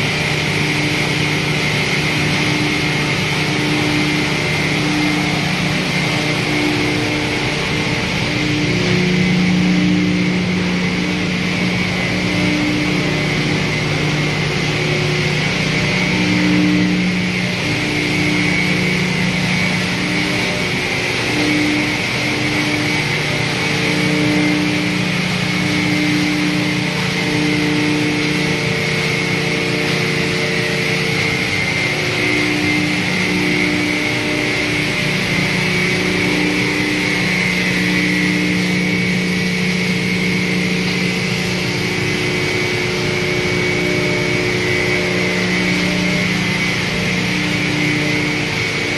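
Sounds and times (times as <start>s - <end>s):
hammer mill grinding wood chips: 0.0s - 48.9s.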